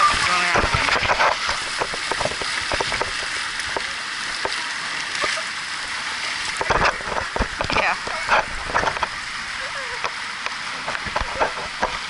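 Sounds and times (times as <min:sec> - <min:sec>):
water rushing with hiss: 0:00.0 - 0:12.0.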